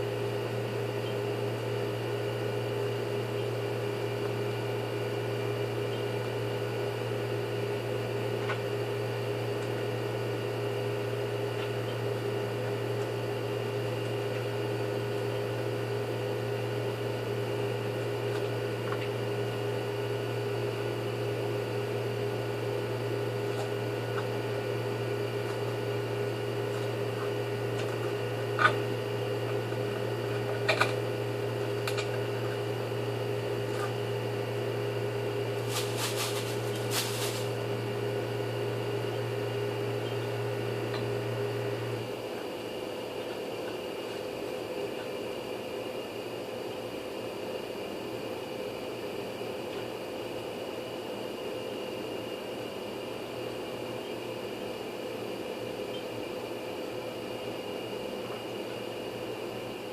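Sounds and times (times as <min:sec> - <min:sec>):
mechanical hum: 0:00.0 - 0:59.9.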